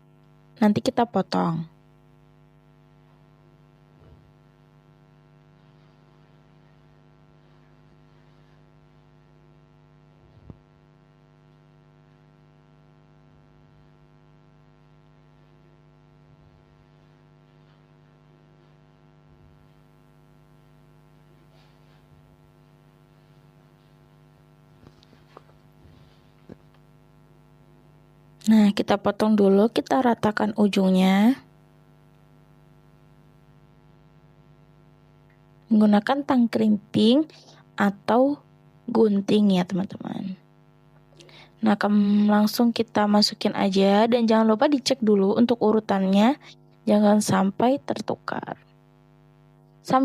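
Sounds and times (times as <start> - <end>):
faint electrical mains hum: 0.0 - 50.0.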